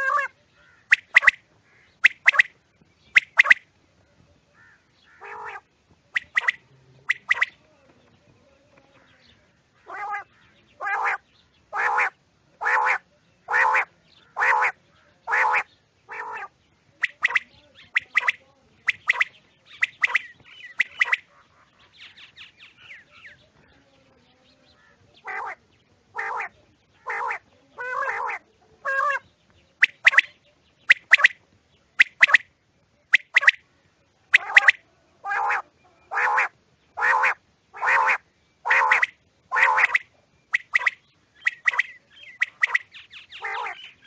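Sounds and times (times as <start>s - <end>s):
quails calling: 0.0s - 3.7s, 4.6s - 7.7s, 9.0s - 23.4s, 24.7s - 32.5s, 33.1s - 33.6s, 34.3s - 44.0s.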